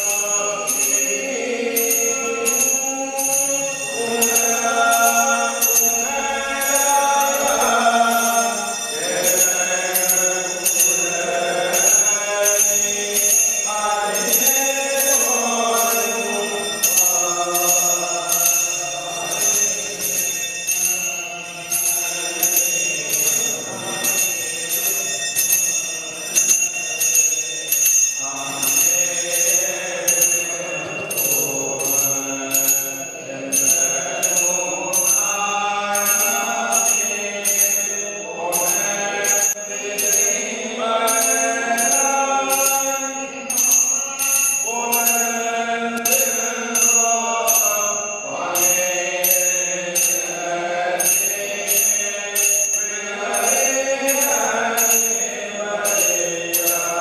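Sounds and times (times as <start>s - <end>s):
bell ringing: 0.0s - 57.0s
voices chanting hymns: 0.0s - 57.0s.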